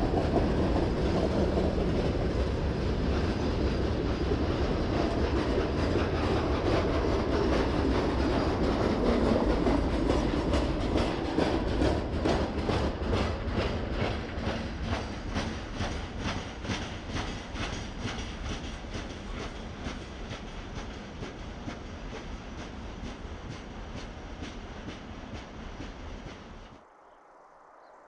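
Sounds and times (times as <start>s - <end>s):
wheels clicking over rail joints: 0.0s - 26.6s
freight train rumble: 0.0s - 26.9s.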